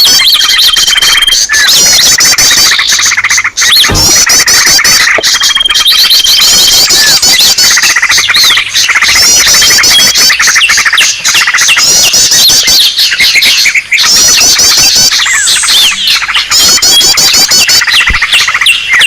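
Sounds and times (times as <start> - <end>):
many songbirds calling: 0.0 - 19.0.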